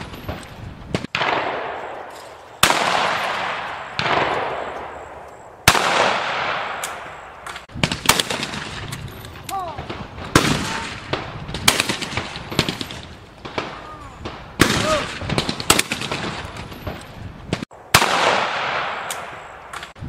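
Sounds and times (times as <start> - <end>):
shotgun shots with echo: 0.0 - 5.0, 5.6 - 8.9, 9.8 - 19.5.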